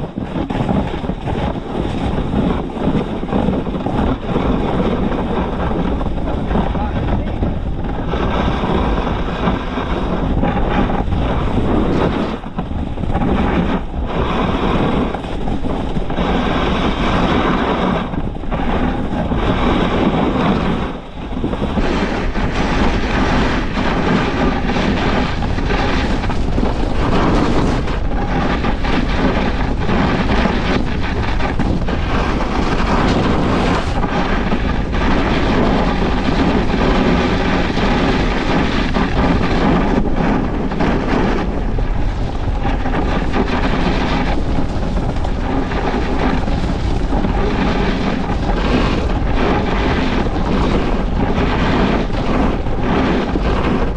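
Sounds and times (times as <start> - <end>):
snowboard scraping over snow: 0.0 - 53.9
wind buffeting microphone: 0.0 - 53.9.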